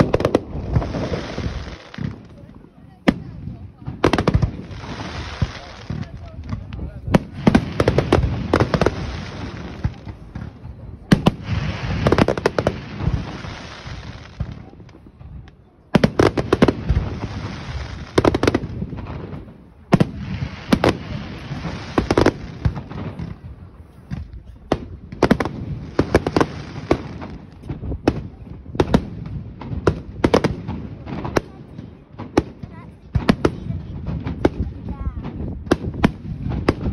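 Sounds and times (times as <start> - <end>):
crackling firework hiss: 0.0 - 36.9
firework bangs: 0.0 - 36.9.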